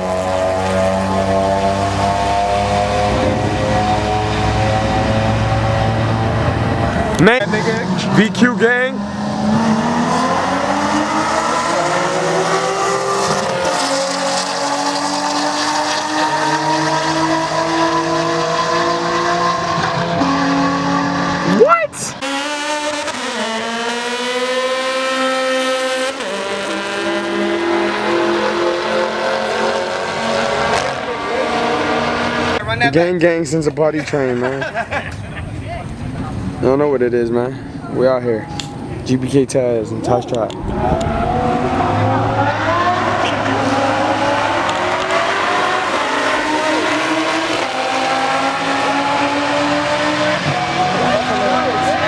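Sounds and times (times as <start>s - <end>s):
car engine accelerating hard: 0.0s - 33.0s, 38.9s - 52.0s.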